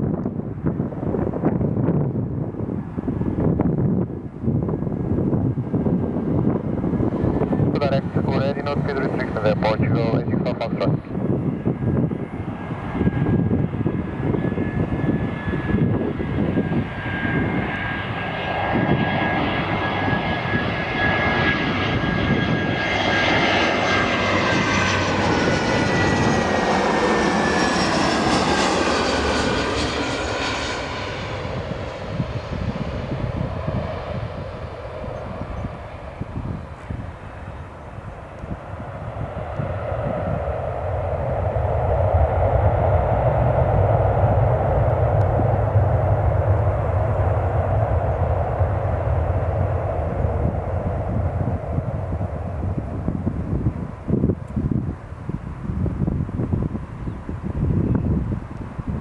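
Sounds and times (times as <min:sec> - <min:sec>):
airliner jet engines whine: 0:00.0 - 0:59.0.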